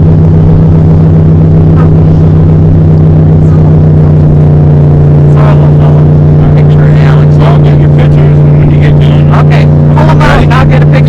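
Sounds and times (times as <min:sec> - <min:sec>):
outboard motor idling: 0:00.0 - 0:11.0
faint voices: 0:01.7 - 0:11.0.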